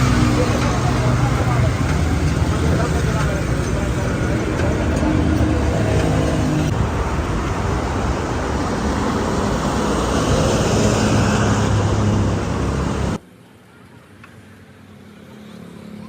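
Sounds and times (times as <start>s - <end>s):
vehicle engine running: 0.0s - 13.2s
road traffic noise: 0.0s - 16.0s.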